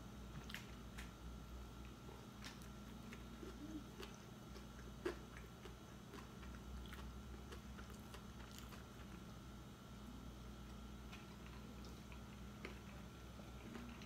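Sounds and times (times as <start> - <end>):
chewing and biting bread: 1.8 - 9.6, 10.6 - 14.0.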